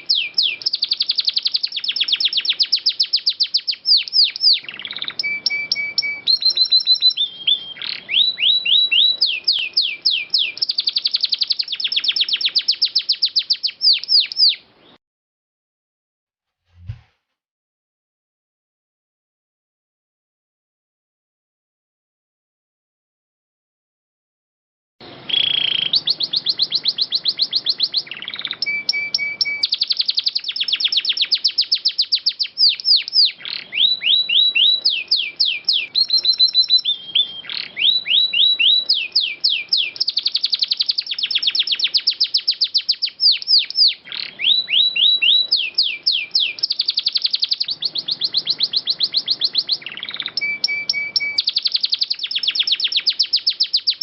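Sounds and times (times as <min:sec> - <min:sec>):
canary singing trills: 0:00.0 - 0:15.0, 0:25.0 - 0:54.0.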